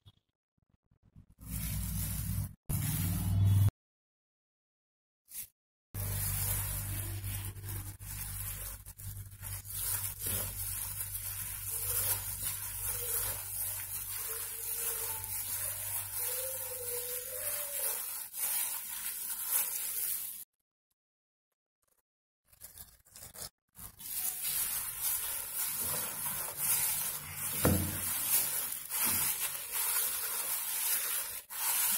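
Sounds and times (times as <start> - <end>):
hand rubbing flour in bowl: 1.4 - 3.7, 5.3 - 20.4, 22.6 - 31.9.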